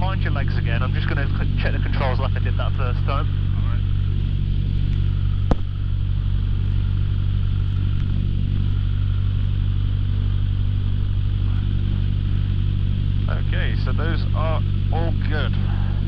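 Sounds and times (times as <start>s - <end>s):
piston aircraft engine idling: 0.0s - 16.0s.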